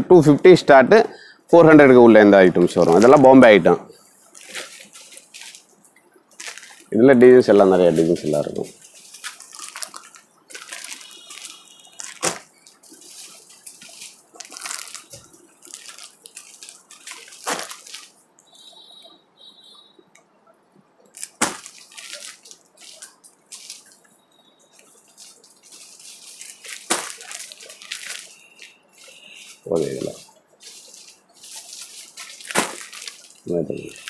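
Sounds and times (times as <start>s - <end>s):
plastic packaging crinkling: 2.5s - 19.1s, 21.1s - 34.0s.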